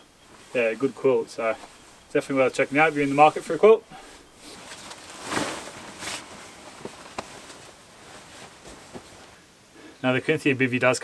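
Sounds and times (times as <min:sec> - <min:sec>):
fabric rustling: 0:00.0 - 0:09.6.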